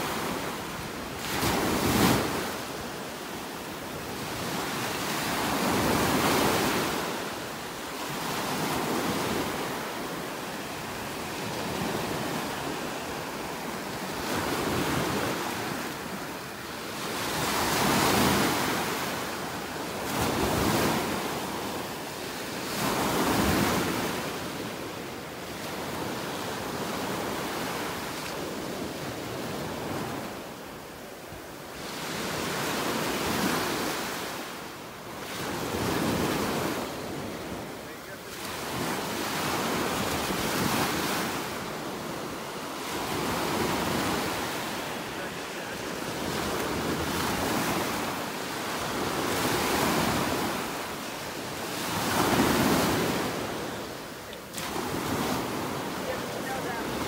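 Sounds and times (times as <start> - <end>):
surf breaking on beach: 0.0 - 30.3, 35.2 - 57.0.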